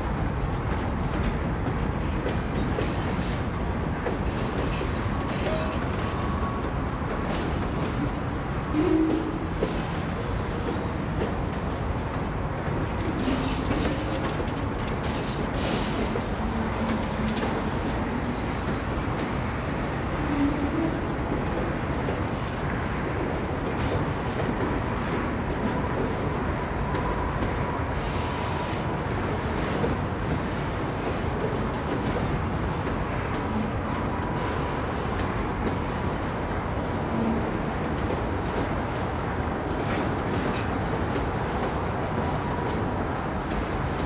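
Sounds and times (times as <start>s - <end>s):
train wheels on rail: 0.0s - 44.0s.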